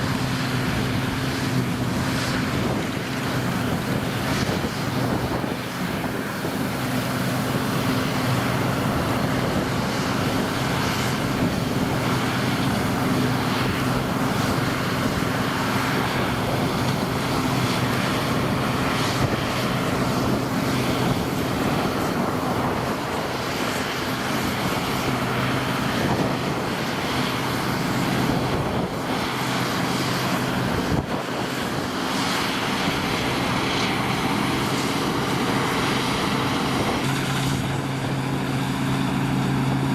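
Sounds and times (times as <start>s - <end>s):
combine harvester engine drone: 0.0s - 39.9s
machine rushing noise: 0.0s - 39.9s.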